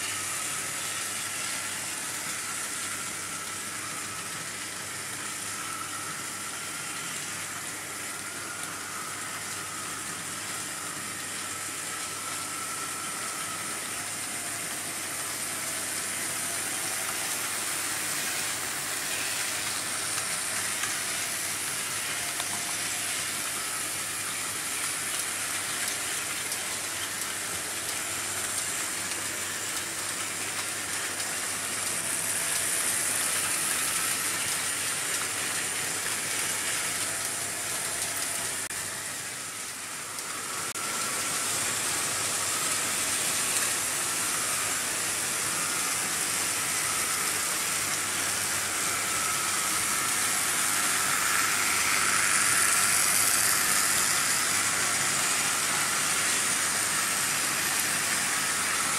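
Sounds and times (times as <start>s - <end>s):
model train wheels rattling on rails: 0.0s - 38.8s, 39.5s - 58.9s.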